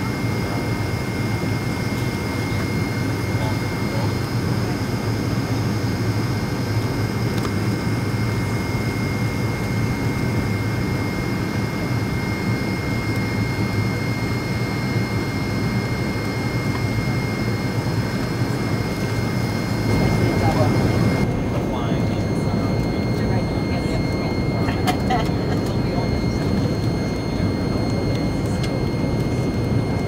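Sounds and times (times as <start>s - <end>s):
high whine tones: 0.0s - 30.0s
jet engine drone and airflow: 0.0s - 30.0s.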